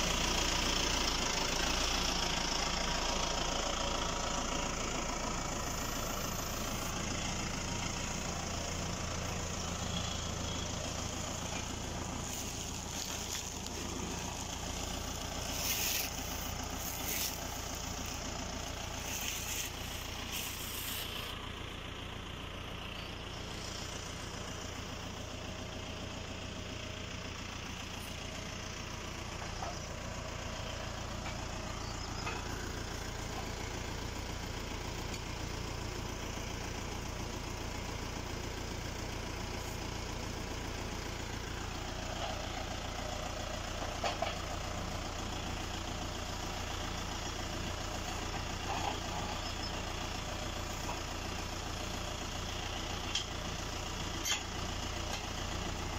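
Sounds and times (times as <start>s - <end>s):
tractor diesel engine idling: 0.0s - 55.9s.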